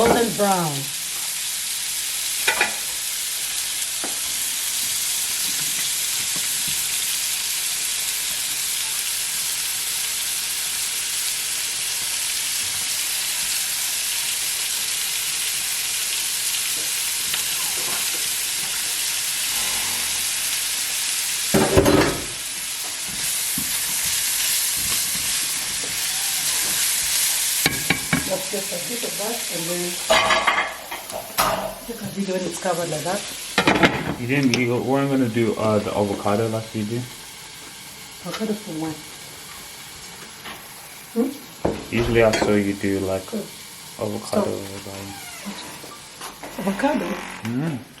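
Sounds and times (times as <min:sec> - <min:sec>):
onions sizzling in frying pan: 0:00.0 - 0:48.0.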